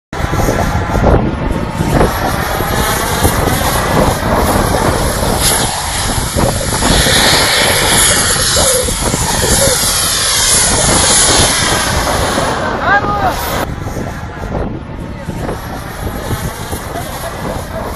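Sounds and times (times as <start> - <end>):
model jet engine running: 0.2 - 17.9.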